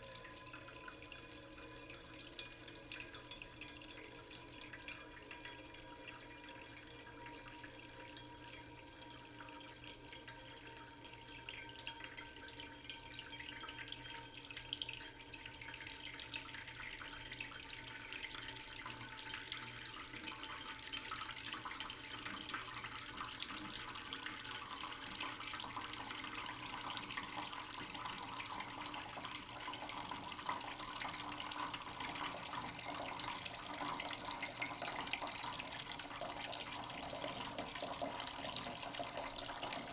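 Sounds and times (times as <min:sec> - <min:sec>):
tap water splashing into pot: 0:00.0 - 0:39.9.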